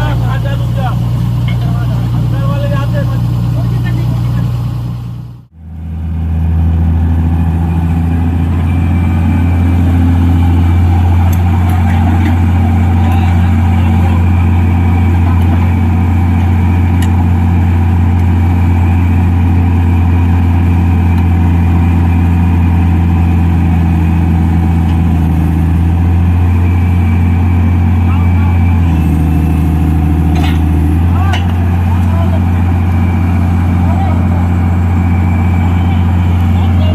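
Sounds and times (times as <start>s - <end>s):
diesel engine droning: 0.0s - 36.9s.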